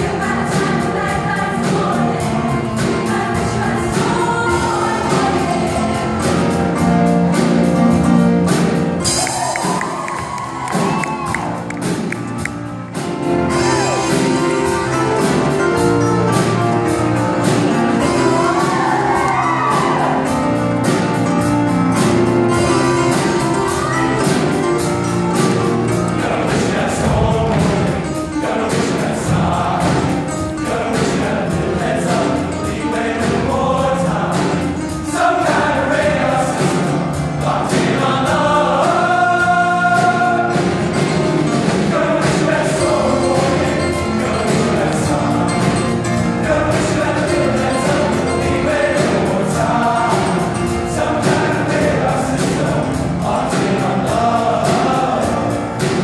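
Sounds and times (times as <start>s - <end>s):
choir singing pop song: 0.0s - 7.7s, 13.2s - 56.0s
live band accompaniment: 0.0s - 56.0s.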